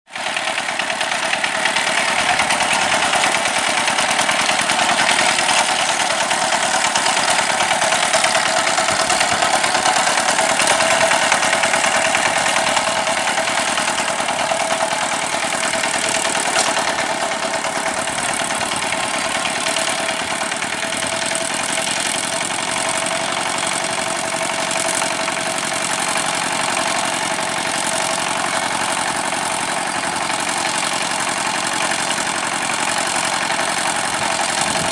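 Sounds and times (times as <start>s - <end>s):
tractor diesel engine chugging: 0.1s - 34.9s.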